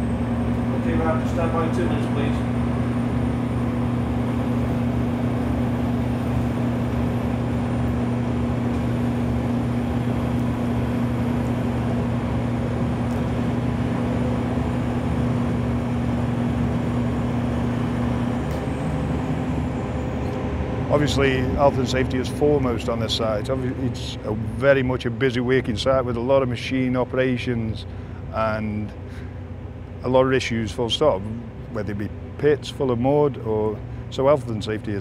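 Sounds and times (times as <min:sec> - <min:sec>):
drilling rig engine drone: 0:00.0 - 0:35.0.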